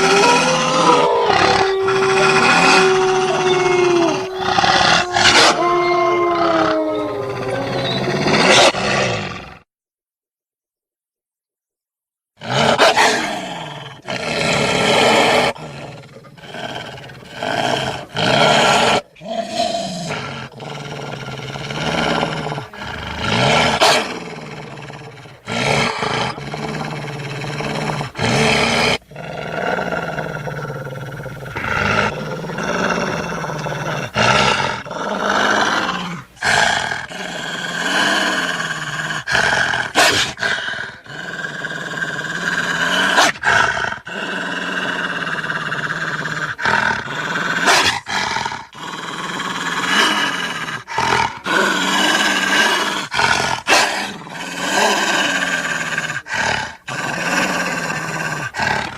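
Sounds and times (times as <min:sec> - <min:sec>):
wolf creature growls and snarls: 0:00.0 - 0:09.7, 0:12.4 - 0:58.9.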